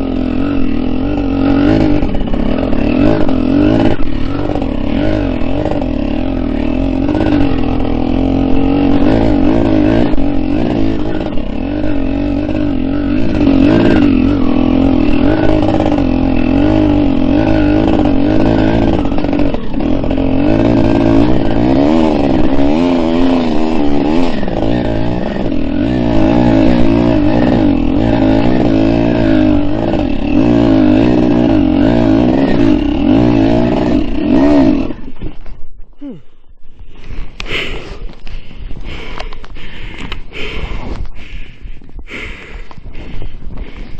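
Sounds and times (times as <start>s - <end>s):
two-stroke dirt bike engine revving: 0.0s - 43.9s.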